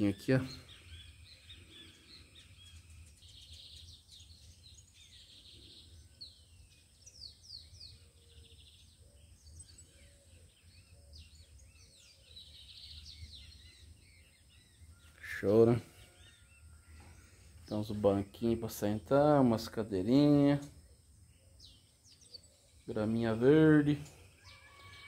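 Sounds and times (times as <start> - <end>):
birds singing and chirping: 0.0 - 25.0.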